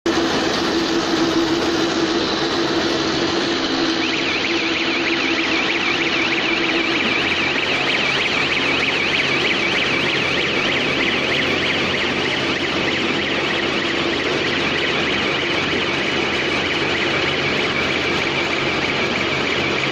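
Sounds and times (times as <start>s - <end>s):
running machine hum: 0.1s - 19.9s
warbling electronic alarm tone: 0.1s - 19.9s.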